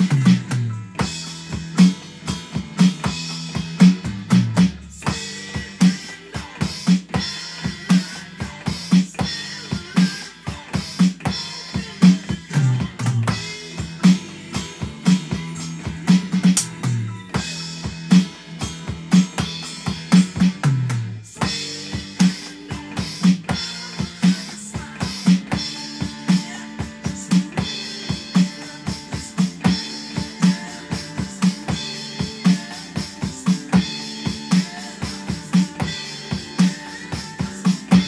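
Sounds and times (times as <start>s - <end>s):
electronic drum kit rock groove: 0.0s - 38.0s
hard rock music track: 0.0s - 38.0s.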